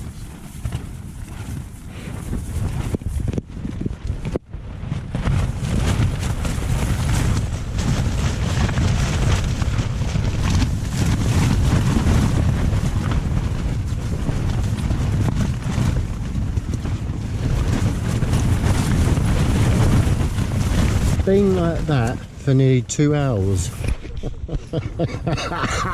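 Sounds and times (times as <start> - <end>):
tent fabric flapping: 0.0 - 25.9
wind rumble on microphone: 0.0 - 25.9.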